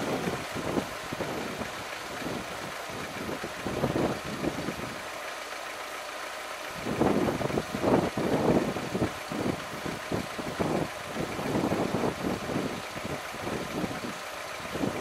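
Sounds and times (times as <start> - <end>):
bumpy road noise: 0.0 - 15.0
car engine running: 0.0 - 15.0.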